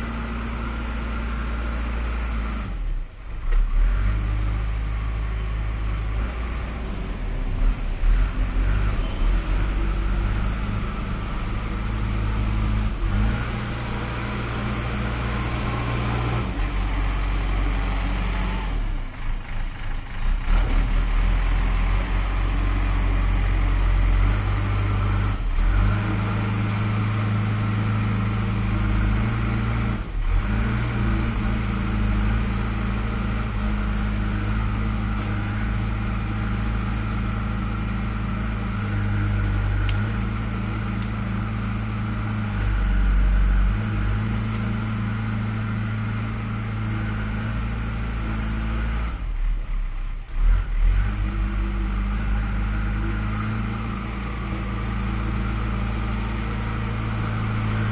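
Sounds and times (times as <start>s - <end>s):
diesel engine running under load: 0.0s - 57.9s.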